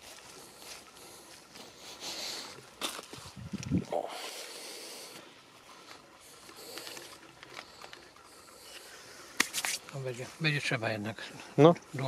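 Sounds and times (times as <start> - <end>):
footsteps in grass: 0.0 - 10.6.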